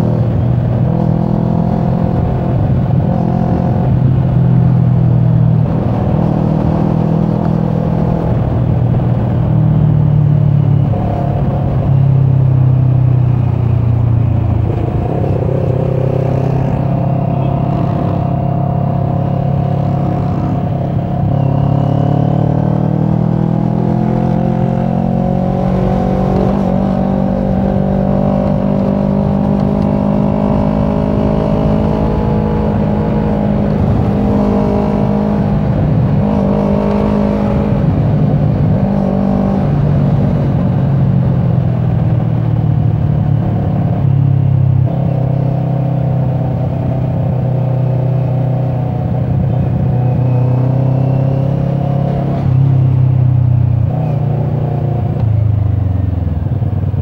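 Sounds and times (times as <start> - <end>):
motorcycle engine running: 0.0 - 51.2.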